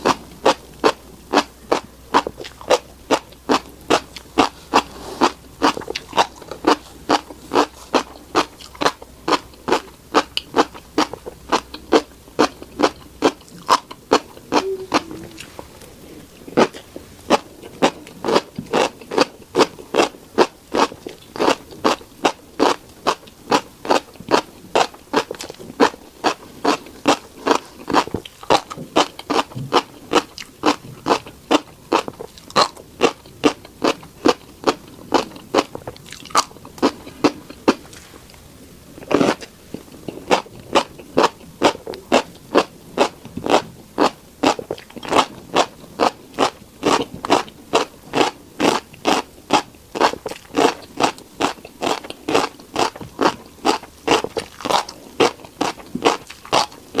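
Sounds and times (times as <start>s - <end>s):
chewing crunchy seeds: 0.0s - 57.0s.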